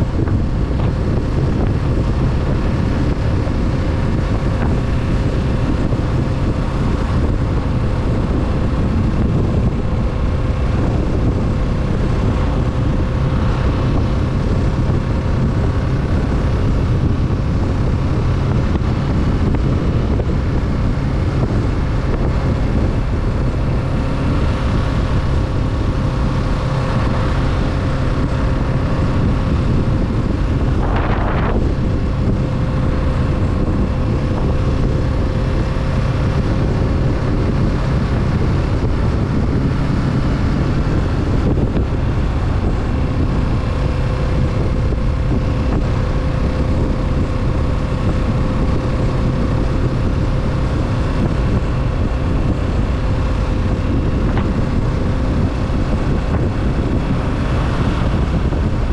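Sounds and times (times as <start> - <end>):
motorcycle engine running: 0.0 - 58.9
wind on microphone: 0.0 - 58.9.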